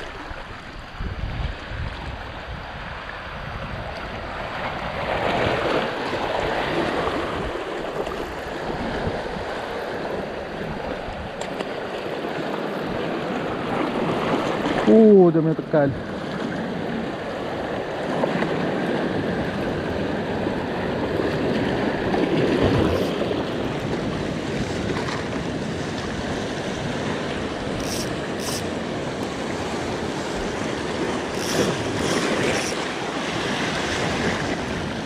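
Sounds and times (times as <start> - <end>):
waves breaking over rocks: 0.0 - 35.0.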